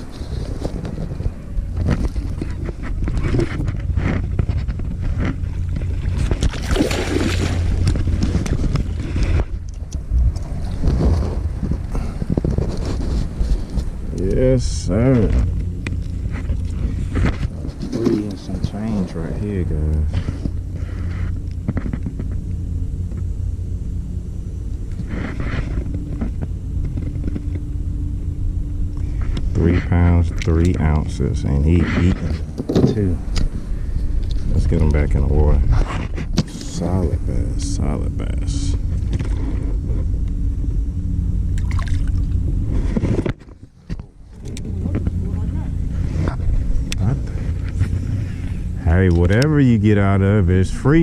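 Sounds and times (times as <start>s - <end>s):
faint hum: 0.0s - 51.0s
wind rumbling on microphone: 0.0s - 51.0s.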